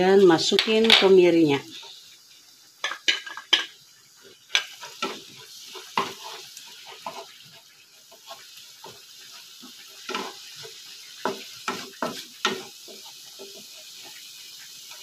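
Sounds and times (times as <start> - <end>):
paste sizzling in oil: 0.0 - 15.0
wooden spatula scraping a pan: 2.8 - 15.0.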